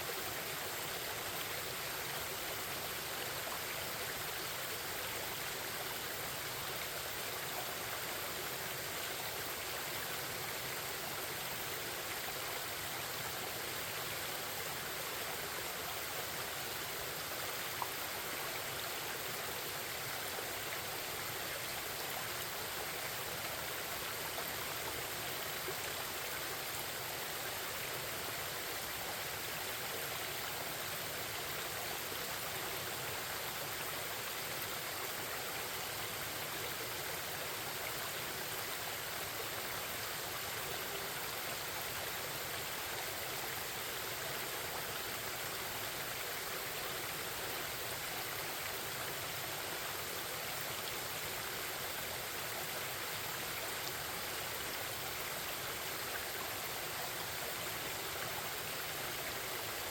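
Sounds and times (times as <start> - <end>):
stream babbling and rushing: 0.0 - 59.9.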